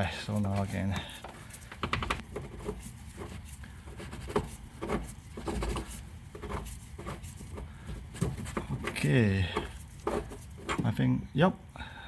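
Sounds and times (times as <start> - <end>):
tool scraping: 0.0 - 11.0.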